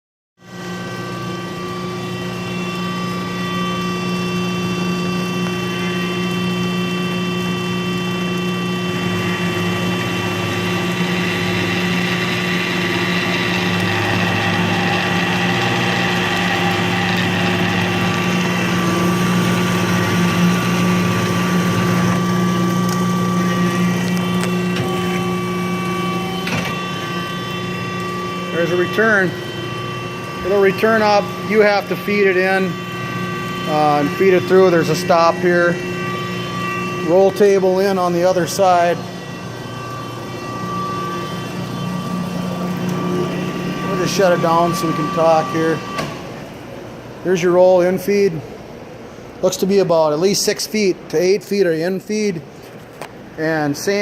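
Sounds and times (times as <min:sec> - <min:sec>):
band saw motor hum and whine: 0:00.4 - 0:54.0.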